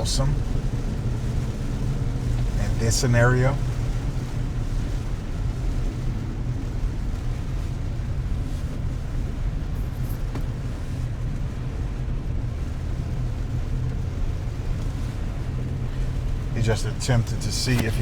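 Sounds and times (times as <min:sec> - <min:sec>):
car engine and tyres rumble: 0:00.0 - 0:18.0.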